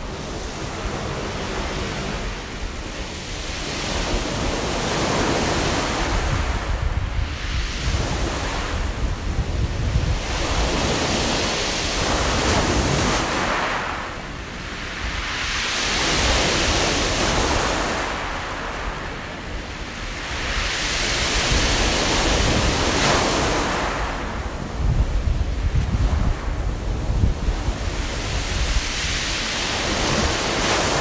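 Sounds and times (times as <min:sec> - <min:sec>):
sea waves washing on pebble beach: 0:00.0 - 0:31.0.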